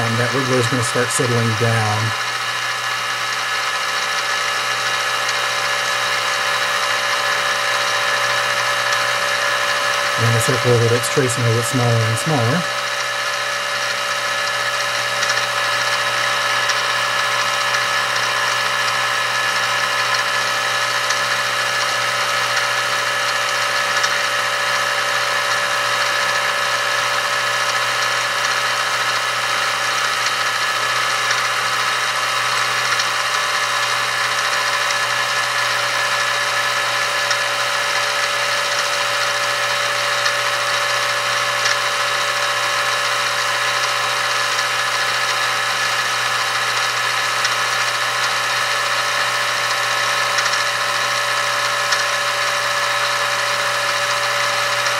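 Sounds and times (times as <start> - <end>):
mill spindle motor whining: 0.0 - 54.9.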